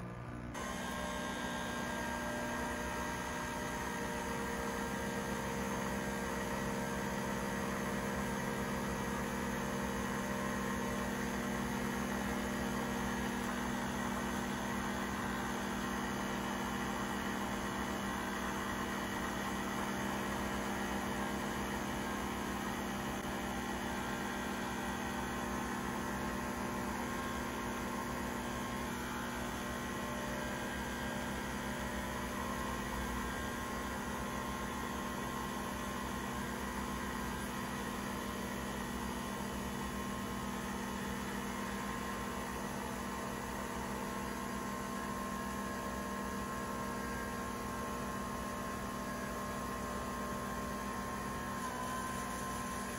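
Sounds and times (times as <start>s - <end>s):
coffee machine humming: 0.0s - 52.9s.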